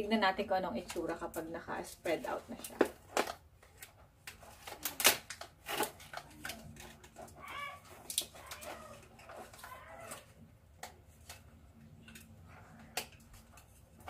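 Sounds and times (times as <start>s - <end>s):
cardboard and plastic packaging rustling: 0.0s - 14.0s.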